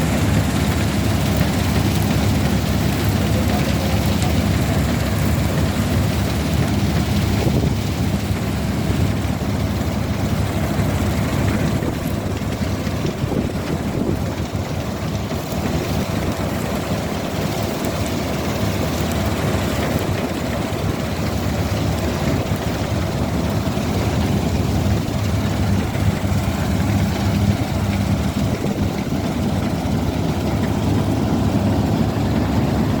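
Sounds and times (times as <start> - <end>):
combine harvester engine droning: 0.0 - 33.0.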